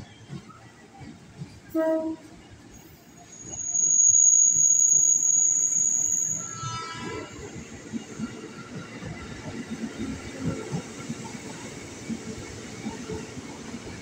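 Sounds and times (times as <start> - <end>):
electric train rumbling on track: 0.0 - 14.0.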